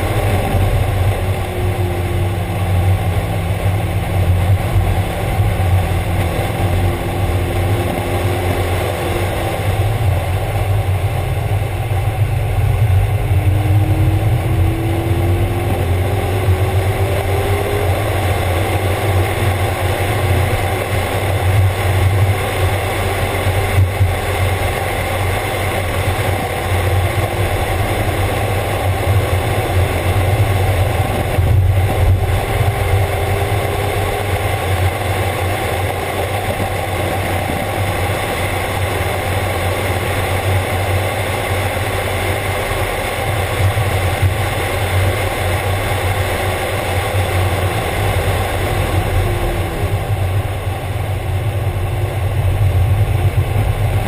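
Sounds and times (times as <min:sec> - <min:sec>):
car engine running hard: 0:00.0 - 0:54.0
wind rush: 0:00.0 - 0:54.0.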